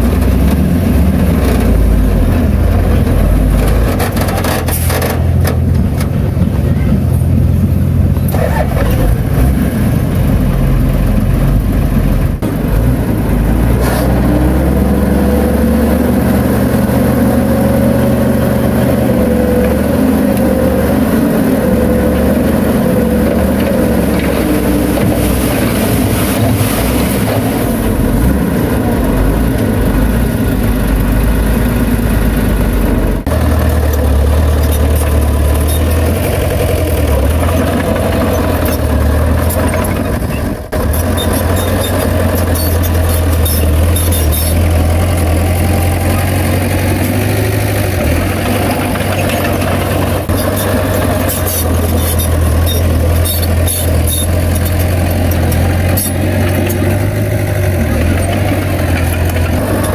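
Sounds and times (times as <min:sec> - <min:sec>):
diesel machinery rumbling: 0:00.0 - 0:59.9.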